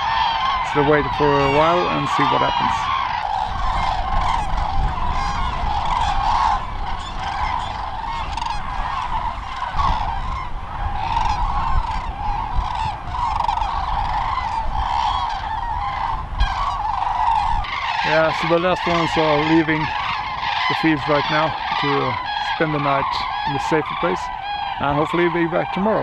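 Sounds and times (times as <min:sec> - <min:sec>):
flock of cranes trumpeting: 0:00.0 - 0:26.0.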